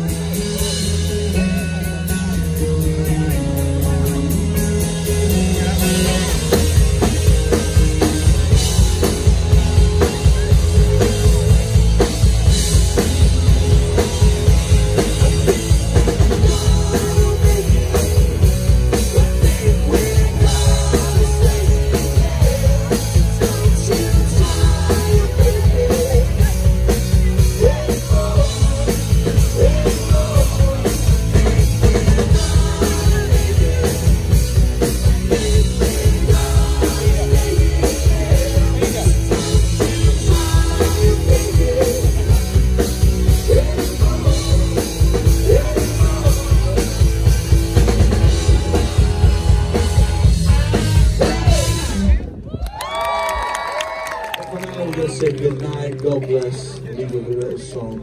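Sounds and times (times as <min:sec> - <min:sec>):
drum kit steady beat: 0:00.0 - 0:52.3
live rock band playing: 0:00.0 - 0:58.0.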